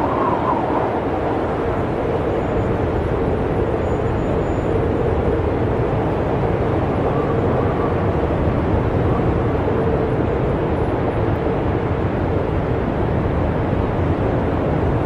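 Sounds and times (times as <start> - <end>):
faint wind howl: 0.0 - 15.0
snowstorm wind rumble: 0.0 - 15.0.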